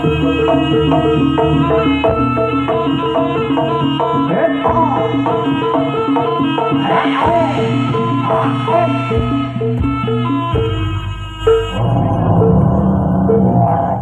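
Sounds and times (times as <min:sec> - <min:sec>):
fast drum beat: 0:00.0 - 0:11.8
pitch-sliding voice or wind instrument: 0:00.0 - 0:14.0
struck pitched notes: 0:00.0 - 0:14.0.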